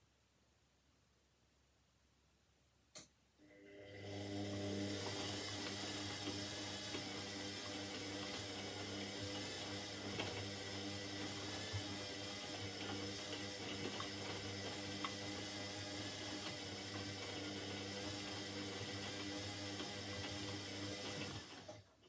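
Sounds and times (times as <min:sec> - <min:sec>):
water running in washing machine: 0:03.6 - 0:21.8.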